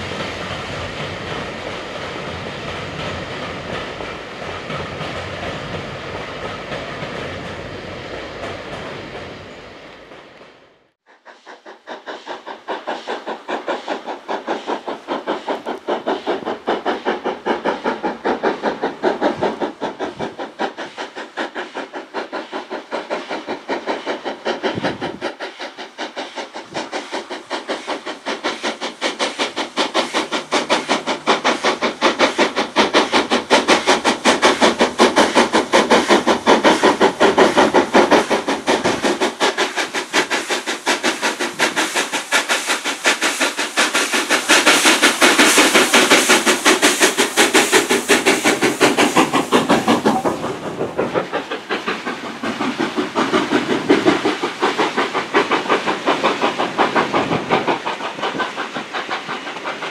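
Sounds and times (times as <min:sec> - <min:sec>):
steam hissing: 0:00.0 - 0:59.9
steam locomotive exhaust beats: 0:00.0 - 0:59.9.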